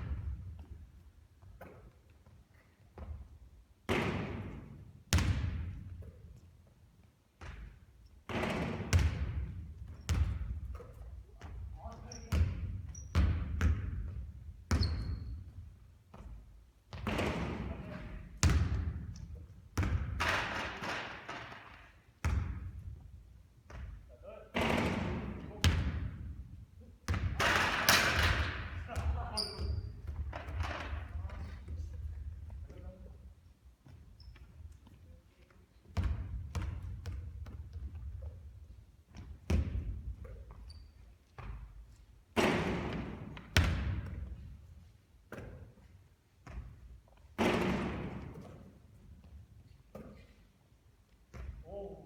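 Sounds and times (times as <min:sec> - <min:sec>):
basketball thudding in a hall: 0:00.0 - 0:06.5, 0:07.3 - 0:35.0, 0:35.8 - 0:52.0.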